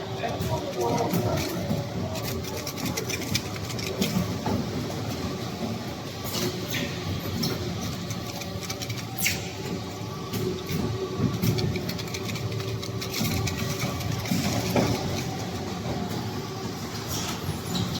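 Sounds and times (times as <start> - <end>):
machinery humming: 0.0 - 17.9.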